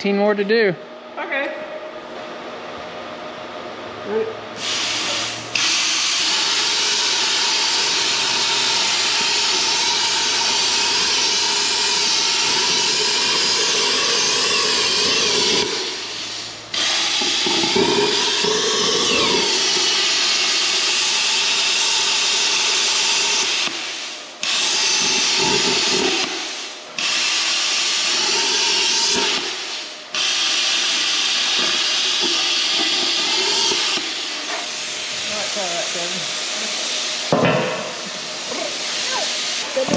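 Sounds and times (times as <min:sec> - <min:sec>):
cutting torch hissing: 0:04.6 - 0:39.9.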